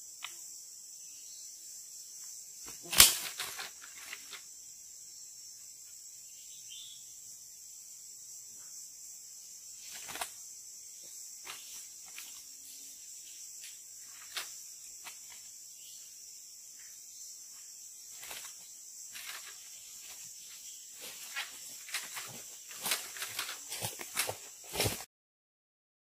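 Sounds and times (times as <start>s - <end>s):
high-pitched insect chorus: 0.0s - 25.1s.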